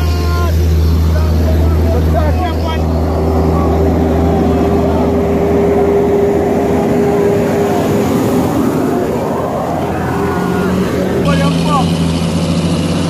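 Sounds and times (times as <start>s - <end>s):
road noise: 0.0s - 13.0s
truck engine drone: 0.0s - 13.0s.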